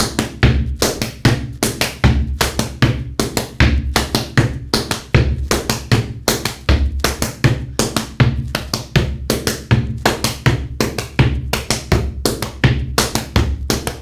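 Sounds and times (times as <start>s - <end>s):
feet stamping on a platform: 0.0s - 14.0s
hands slapping boots: 0.0s - 14.0s.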